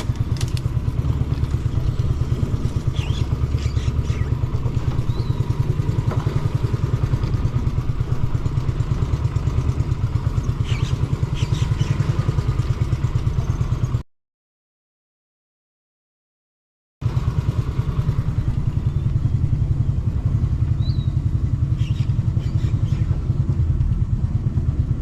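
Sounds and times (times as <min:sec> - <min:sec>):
small engine puttering: 0:00.0 - 0:14.0, 0:17.0 - 0:25.0.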